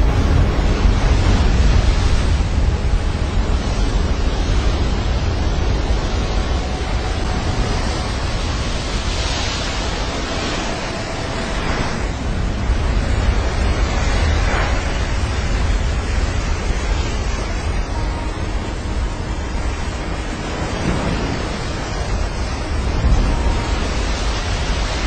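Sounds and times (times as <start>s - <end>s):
ocean wave breaking: 0.0s - 25.0s
wind buffeting microphone: 0.0s - 25.0s.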